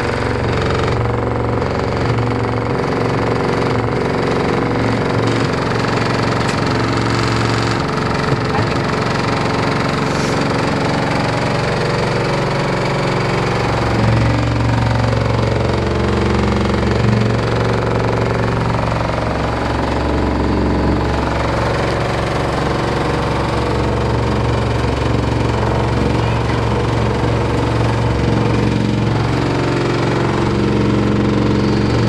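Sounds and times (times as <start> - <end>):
low hum: 0.0 - 32.0
washer dryer running and shaking: 0.0 - 32.0.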